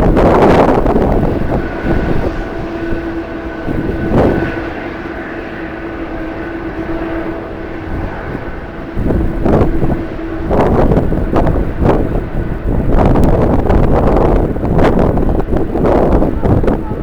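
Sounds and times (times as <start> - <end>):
jet engines whining: 0.0 - 17.0
wind gusts on microphone: 0.0 - 17.0.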